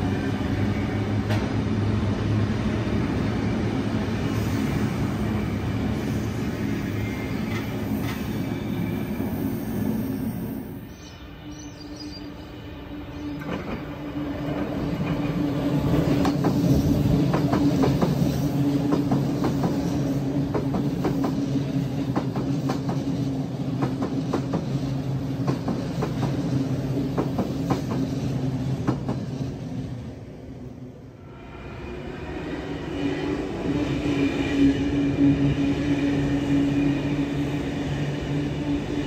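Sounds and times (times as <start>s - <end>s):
electric train humming past: 0.0s - 39.0s.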